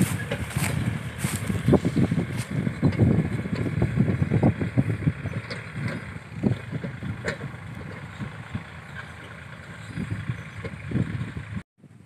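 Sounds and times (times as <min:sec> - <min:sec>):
tractor engine running: 0:00.0 - 0:12.0
wind buffeting microphone: 0:00.0 - 0:12.0.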